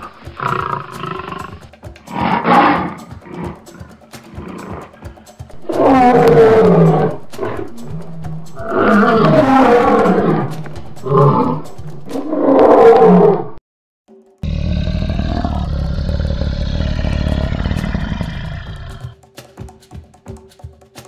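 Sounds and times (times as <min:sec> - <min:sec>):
lion roaring: 0:00.0 - 0:13.6, 0:14.4 - 0:19.2.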